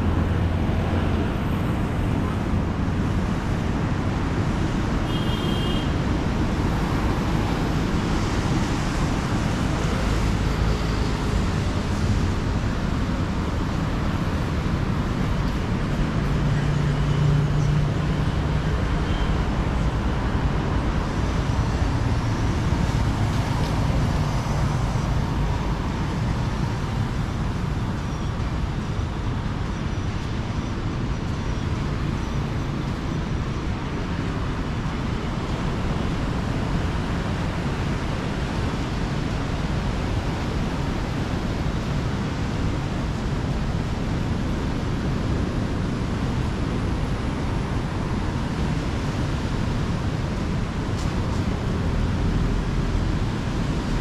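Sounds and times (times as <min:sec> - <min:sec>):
vehicle engine hum: 0:00.0 - 0:54.0
wind: 0:00.0 - 0:54.0.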